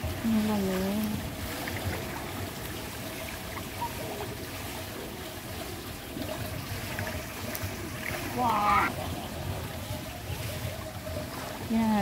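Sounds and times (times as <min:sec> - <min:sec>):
pool water rushing: 0:00.0 - 0:12.0.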